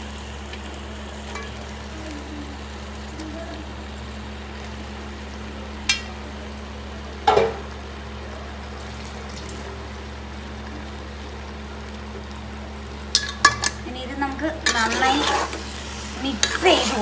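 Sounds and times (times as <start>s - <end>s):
chicken and onion frying in a pot: 0.0s - 17.0s
constant low hum: 0.0s - 17.0s.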